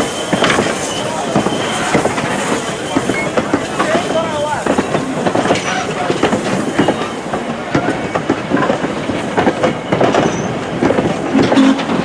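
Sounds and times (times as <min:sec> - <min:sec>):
train wheels clacking on rails: 0:00.0 - 0:12.0.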